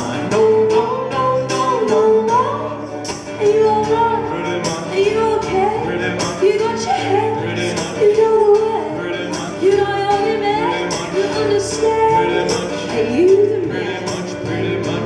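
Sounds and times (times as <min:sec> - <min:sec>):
live band music: 0:00.0 - 0:15.0
woman singing: 0:00.3 - 0:15.0.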